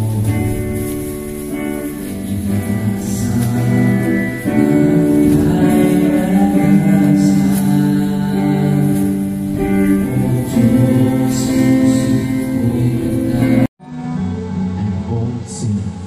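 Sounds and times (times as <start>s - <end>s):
guitar music with singing: 0.0s - 16.0s.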